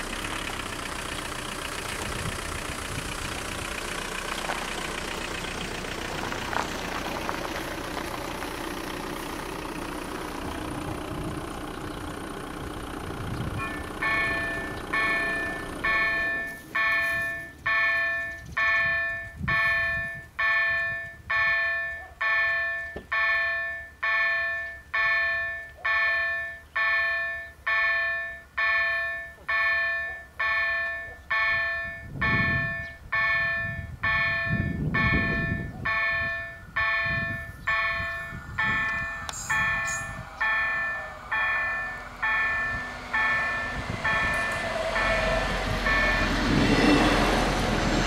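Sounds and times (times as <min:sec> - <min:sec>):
level crossing warning bell ringing: 0:08.8 - 0:47.5.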